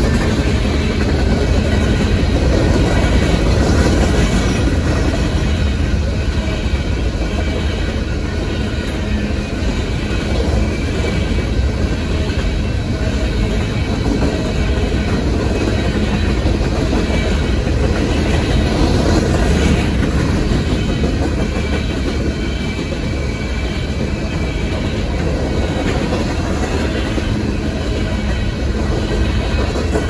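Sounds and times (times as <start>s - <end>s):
steel train wheels on rails: 0.0s - 30.0s.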